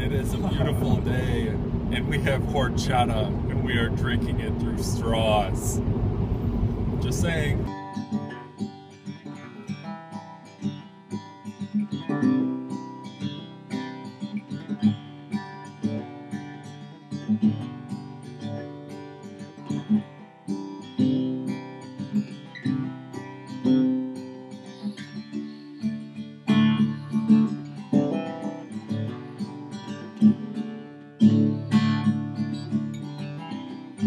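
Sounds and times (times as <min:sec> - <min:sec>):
acoustic guitar music: 0:00.0 - 0:34.0.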